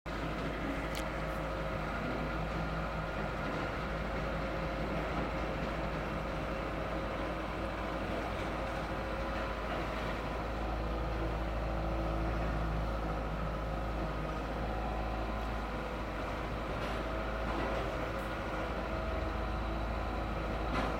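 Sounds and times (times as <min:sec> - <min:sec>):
excavator engine running: 0:00.1 - 0:20.9.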